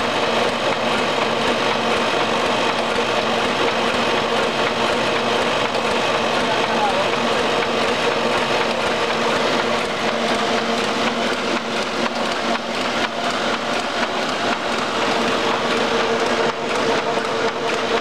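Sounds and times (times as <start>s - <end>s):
printing press whirring: 0.0s - 18.0s.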